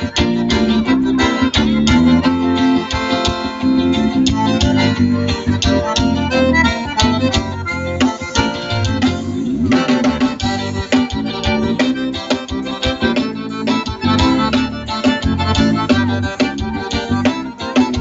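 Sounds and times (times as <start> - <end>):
accordion: 0.0 - 18.0
live band playing: 0.0 - 18.0.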